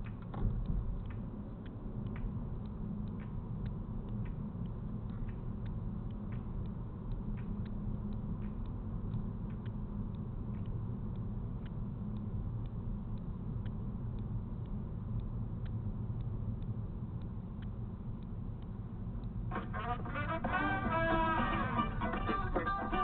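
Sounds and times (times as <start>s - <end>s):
faint ticks: 0.0s - 23.0s.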